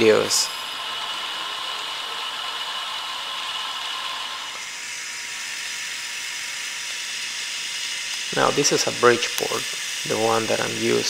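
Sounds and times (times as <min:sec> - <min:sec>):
milling machine cutting metal: 0:00.0 - 0:11.0.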